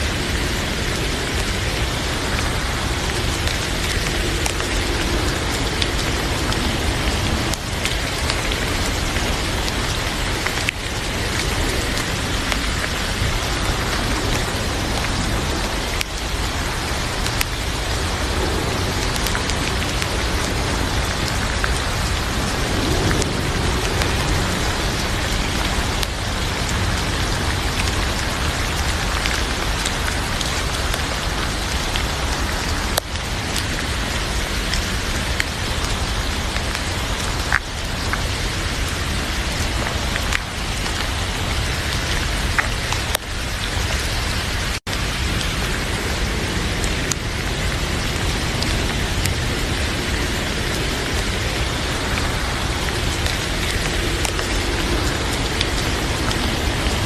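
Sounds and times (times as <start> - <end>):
heavy rain: 0.0 - 57.0
sharp ticks of raindrops: 0.0 - 57.0.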